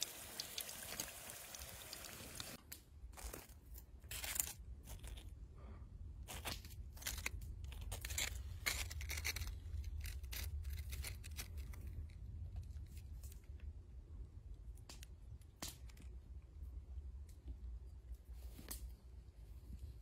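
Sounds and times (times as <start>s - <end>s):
crackly crunches and scrapes: 2.6s - 20.0s.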